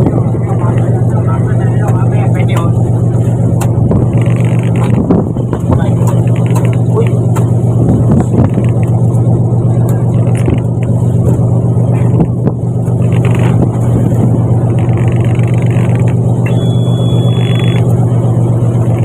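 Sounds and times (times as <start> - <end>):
knocks and clatters: 0.0 - 16.4
boat engine droning: 0.0 - 19.0.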